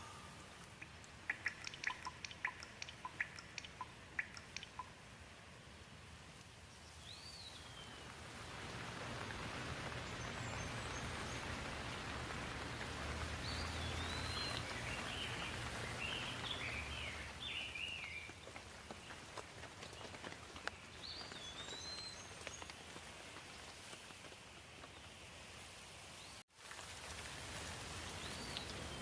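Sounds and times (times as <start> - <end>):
rain falling: 0.0 - 24.7, 26.6 - 29.0.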